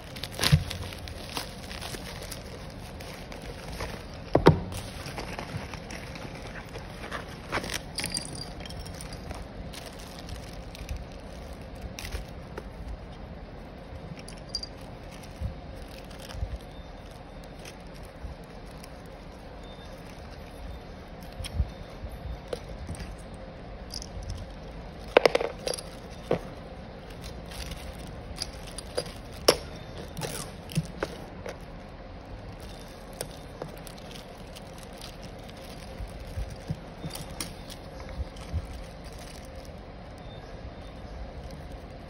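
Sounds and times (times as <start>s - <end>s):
plastic packaging crinkling: 0.0s - 21.7s, 22.4s - 42.0s.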